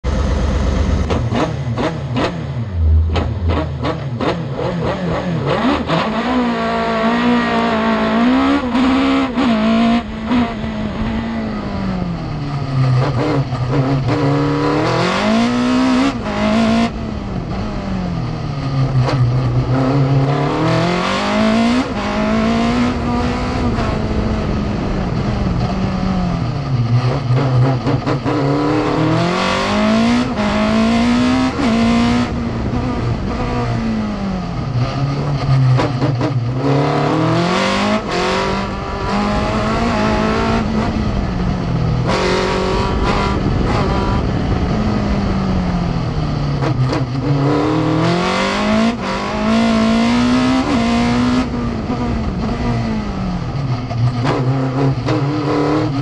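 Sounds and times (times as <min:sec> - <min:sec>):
race car engine revving: 0:00.0 - 0:56.0
wind and road noise: 0:00.0 - 0:56.0.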